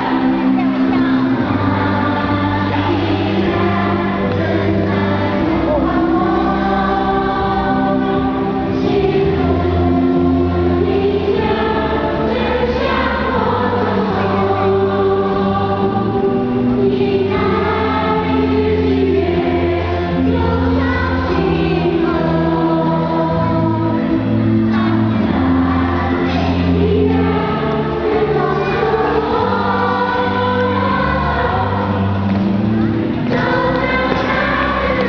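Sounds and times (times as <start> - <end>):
choir singing long notes: 0.0 - 35.0
low accompaniment: 0.0 - 35.0.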